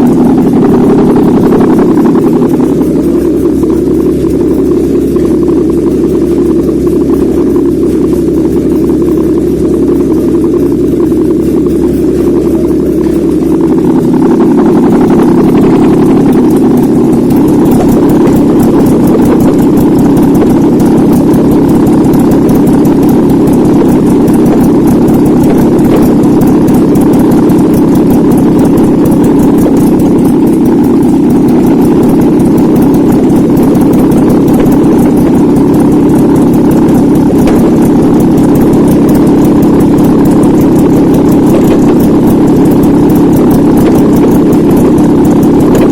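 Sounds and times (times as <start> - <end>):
car engine running steadily: 0.0 - 45.9.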